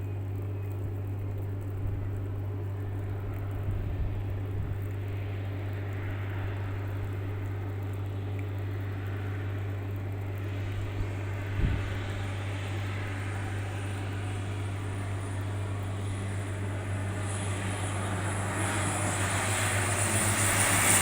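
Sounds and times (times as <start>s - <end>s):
airliner engine drone: 0.0s - 21.0s.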